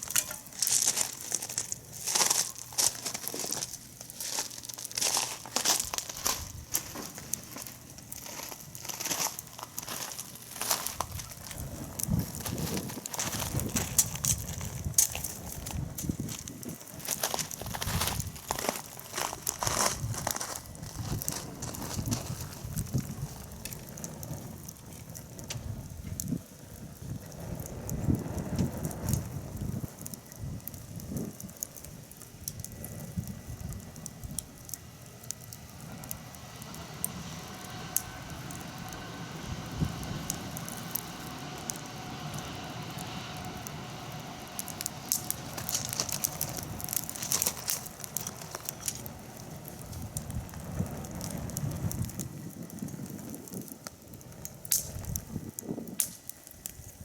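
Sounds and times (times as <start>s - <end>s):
low rustling rumble: 0.0s - 57.0s
wood fire crackling: 0.0s - 57.0s.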